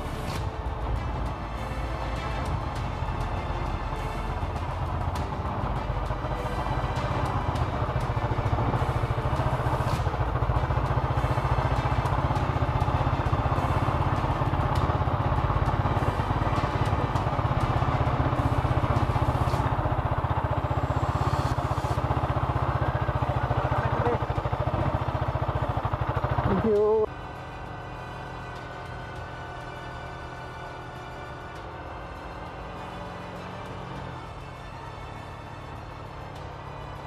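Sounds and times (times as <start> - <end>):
motorcycle engine running: 0.0 - 37.0
road noise: 0.0 - 37.0.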